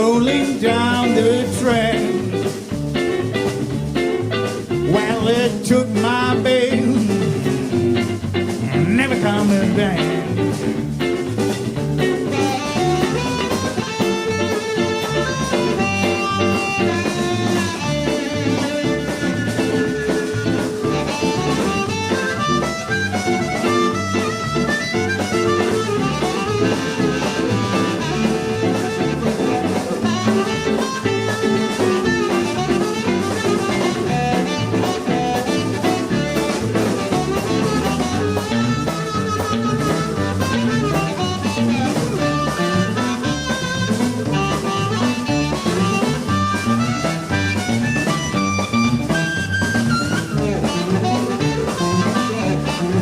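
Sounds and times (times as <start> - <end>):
drum kit: 0.0 - 53.0
guitar: 0.0 - 53.0
repeating bass line: 0.0 - 53.0.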